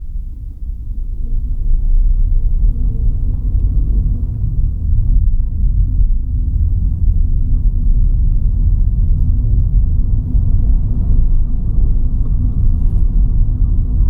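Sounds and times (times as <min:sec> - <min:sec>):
wind rumble: 0:00.0 - 0:14.0.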